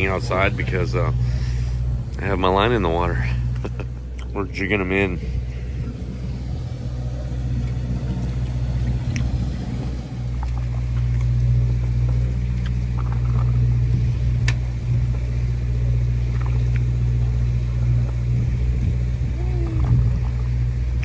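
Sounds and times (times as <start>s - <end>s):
boat machinery droning: 0.0s - 21.0s.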